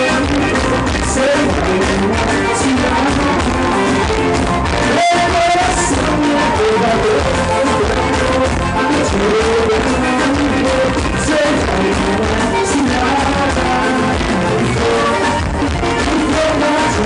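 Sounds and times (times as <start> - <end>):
band playing loud music: 0.0 - 17.0
singing: 0.0 - 17.0.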